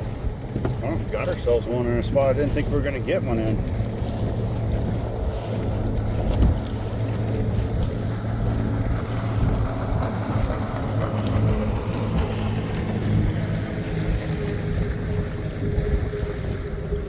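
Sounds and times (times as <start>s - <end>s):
boat motor humming: 0.0s - 17.0s
wind buffeting microphone: 0.0s - 17.0s.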